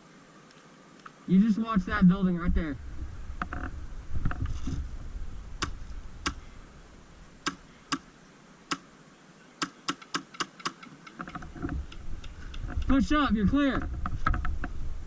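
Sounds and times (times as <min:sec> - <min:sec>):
faint rustling of movement: 0:00.0 - 0:15.0.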